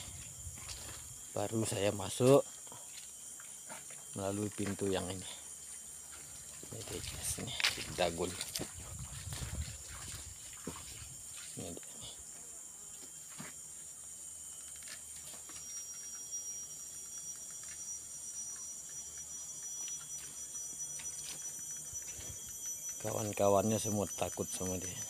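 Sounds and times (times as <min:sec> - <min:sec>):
high-pitched insect drone: 0:00.0 - 0:25.0
thin steady tone: 0:00.0 - 0:25.0.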